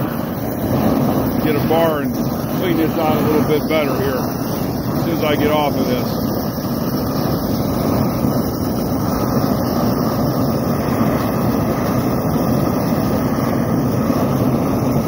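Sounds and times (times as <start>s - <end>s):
propane torch rushing: 0.0s - 15.0s.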